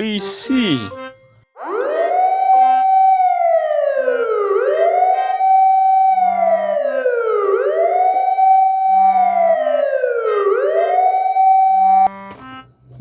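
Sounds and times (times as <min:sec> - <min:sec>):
police siren wailing: 0:01.6 - 0:12.1.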